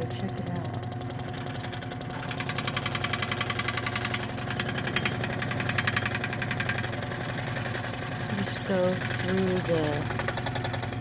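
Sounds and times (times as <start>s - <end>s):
scroll saw running: 0.0s - 11.0s.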